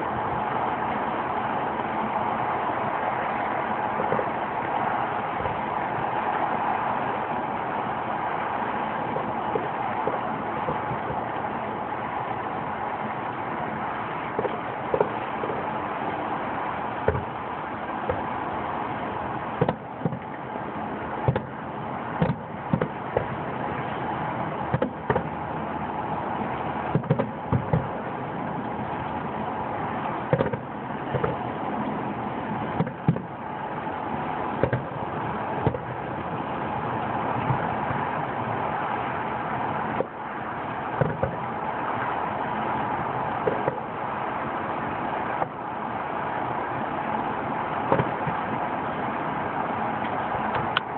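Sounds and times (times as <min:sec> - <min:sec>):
steady background noise: 0:00.0 - 0:50.9
fireworks bursting with bangs: 0:02.3 - 0:49.1.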